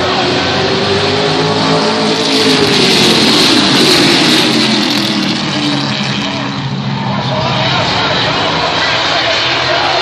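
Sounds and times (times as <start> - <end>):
race trucks racing past: 0.0 - 10.0.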